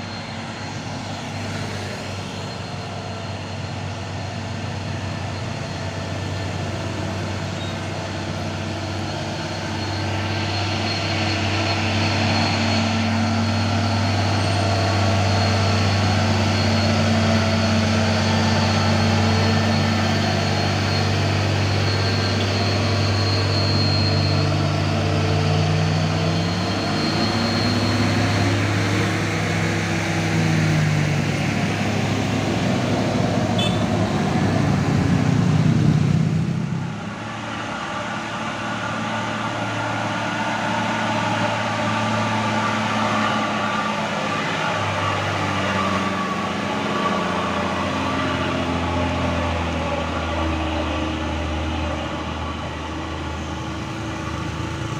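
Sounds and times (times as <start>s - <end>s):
truck diesel engine labouring: 0.0s - 54.9s.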